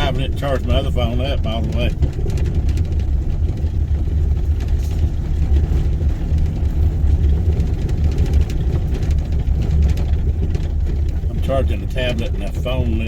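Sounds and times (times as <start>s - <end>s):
engine and road rumble: 0.0s - 13.0s
small rattles and clicks: 0.0s - 13.0s.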